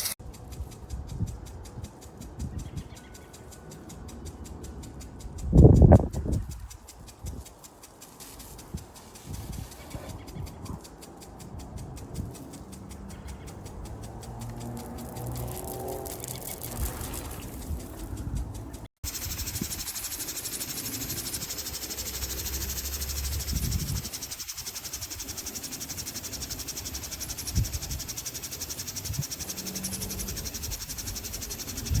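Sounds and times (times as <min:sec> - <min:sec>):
impact sprinkler chattering: 0:00.0 - 0:32.0.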